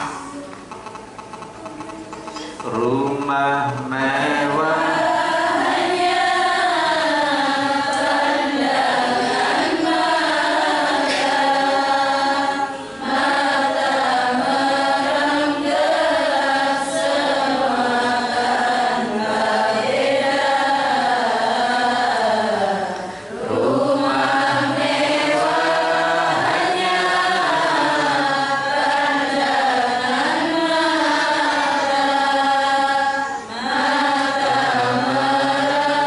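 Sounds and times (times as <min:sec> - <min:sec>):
group singing devotional song: 0:02.5 - 0:36.0.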